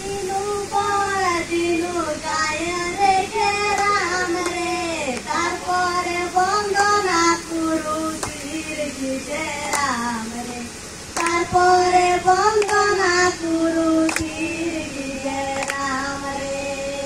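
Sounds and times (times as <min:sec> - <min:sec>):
girls singing into a microphone: 0:00.0 - 0:17.0.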